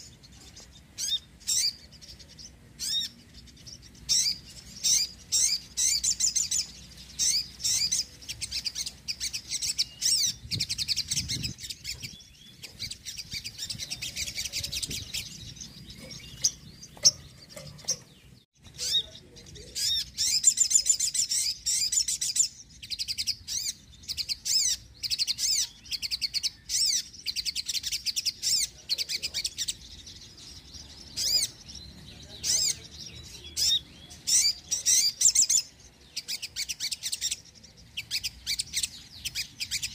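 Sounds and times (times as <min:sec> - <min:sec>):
bird trilling and chirping: 0:00.0 - 0:39.9.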